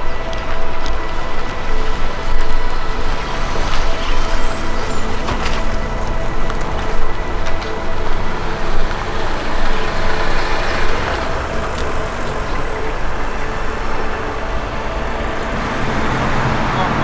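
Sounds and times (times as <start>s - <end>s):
gusty wind buffeting microphone: 0.0s - 17.0s.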